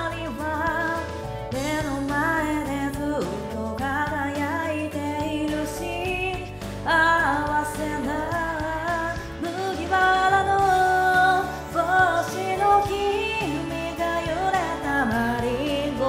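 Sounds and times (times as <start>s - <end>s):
karaoke backing track: 0.0s - 16.0s
woman singing pop song: 0.0s - 16.0s.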